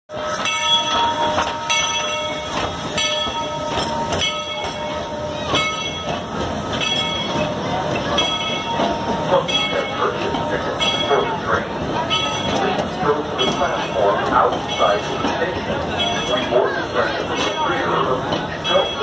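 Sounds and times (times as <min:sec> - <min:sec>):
locomotive bell ringing: 0:00.1 - 0:19.0
steam train rolling: 0:00.1 - 0:19.0.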